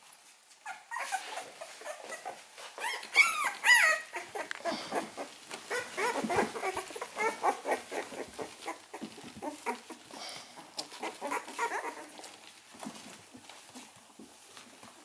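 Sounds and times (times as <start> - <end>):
puppies squeaking and whimpering: 0.6 - 13.9.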